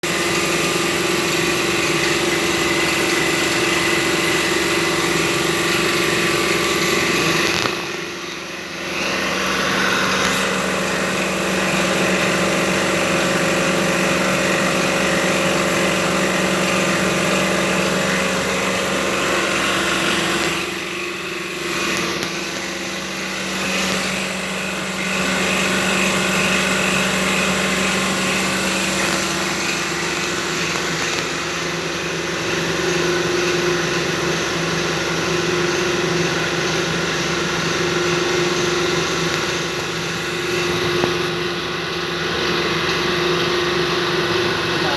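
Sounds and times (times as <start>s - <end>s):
machine humming and whirring: 0.0s - 44.9s.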